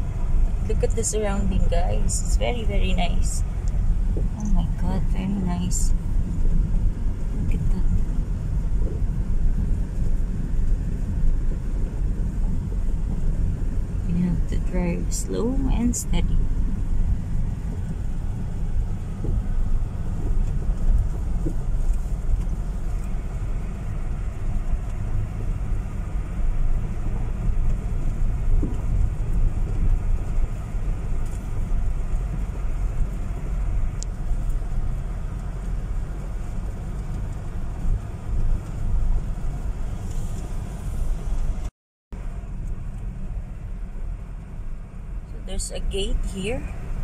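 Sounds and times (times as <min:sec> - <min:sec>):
car driving on gravel: 0:00.0 - 0:47.0.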